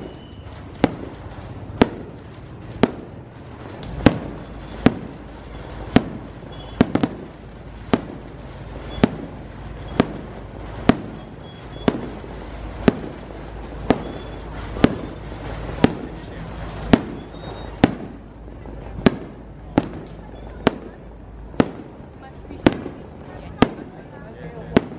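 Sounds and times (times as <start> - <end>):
fireworks bursting with sharp bangs: 0.0 - 24.9.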